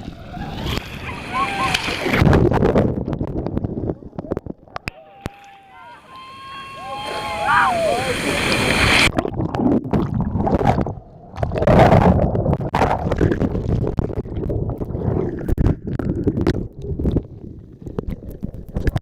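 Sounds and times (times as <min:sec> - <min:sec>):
water splashing: 0:00.0 - 0:03.7, 0:04.5 - 0:17.2
muffled surf churning and gurgling: 0:00.0 - 0:19.0.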